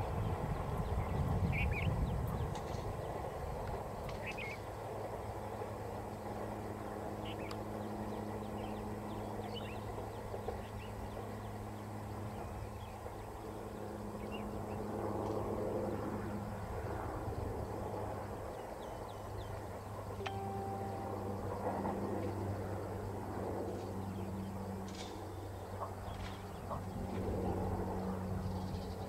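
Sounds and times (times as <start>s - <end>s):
distant train rumble and hum: 0.0s - 29.0s.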